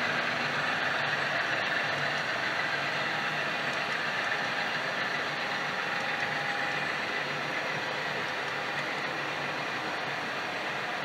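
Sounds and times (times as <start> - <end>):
model train rolling on track: 0.0 - 11.0.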